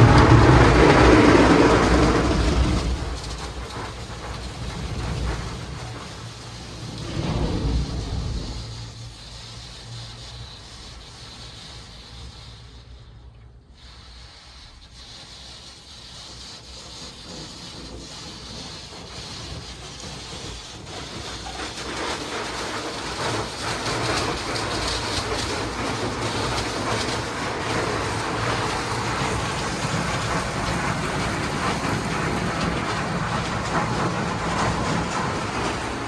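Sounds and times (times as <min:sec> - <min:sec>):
car wash machine rumble: 0:00.0 - 0:12.9, 0:13.9 - 0:36.0.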